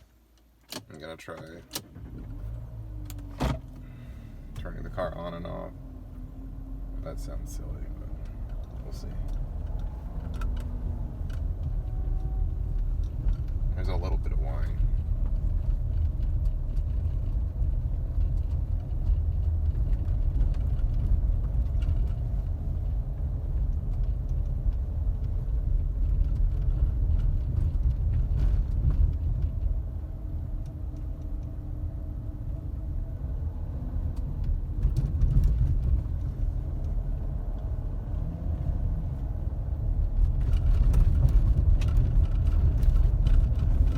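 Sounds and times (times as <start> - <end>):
diesel engine rumbling: 1.0 - 43.9.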